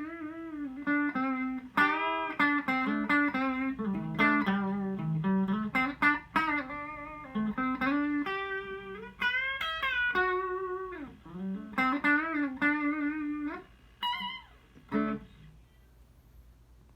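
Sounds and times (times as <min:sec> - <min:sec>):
clean electric guitar melody: 0:00.0 - 0:15.5.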